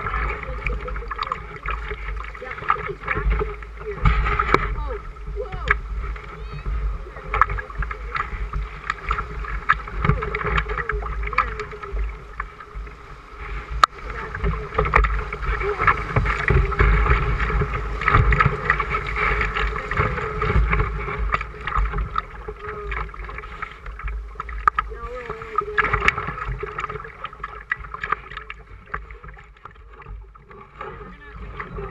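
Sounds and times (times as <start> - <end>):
low rumble: 0.0 - 31.9
river water rushing and splashing: 0.0 - 31.9.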